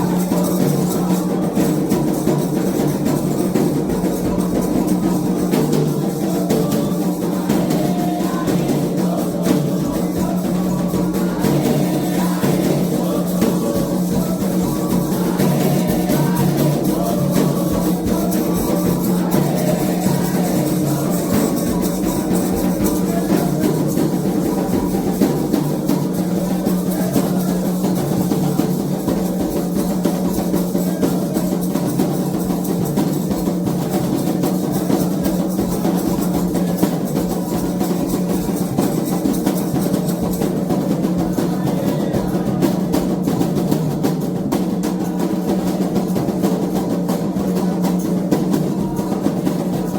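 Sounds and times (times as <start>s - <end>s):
hand drums playing fast rhythm: 0.0s - 49.9s.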